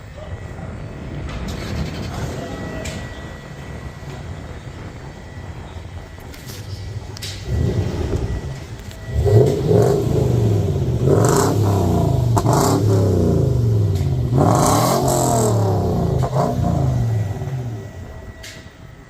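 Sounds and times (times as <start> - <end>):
car engine revving: 1.0 - 18.4.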